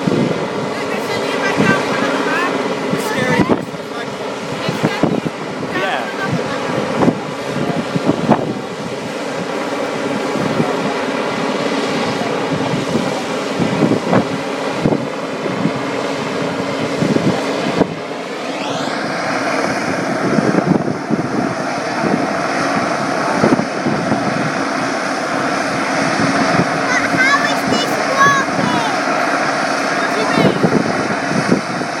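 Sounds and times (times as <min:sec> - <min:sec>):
helicopter rotor and engine: 0:00.0 - 0:32.0
wind buffeting microphone: 0:00.0 - 0:32.0.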